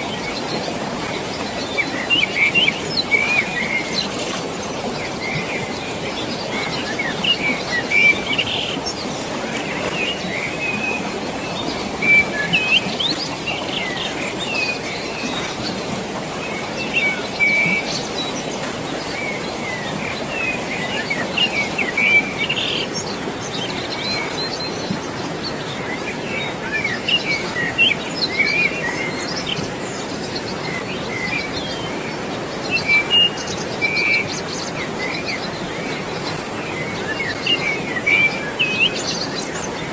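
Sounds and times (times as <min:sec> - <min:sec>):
birds chirping: 0:00.0 - 0:39.9
flowing water: 0:00.0 - 0:39.9.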